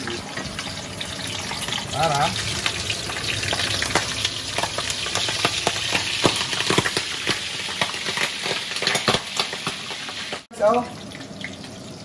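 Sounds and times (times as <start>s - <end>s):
frying oil sizzling and popping: 0.0s - 12.0s.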